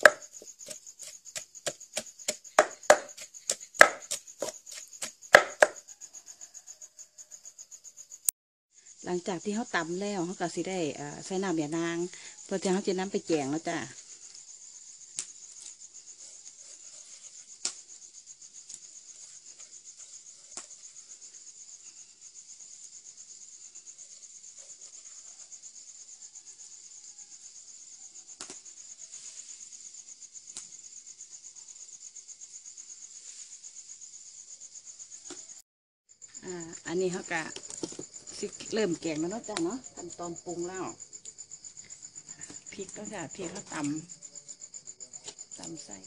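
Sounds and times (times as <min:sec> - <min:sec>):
night insects trilling: 0:00.0 - 0:46.0.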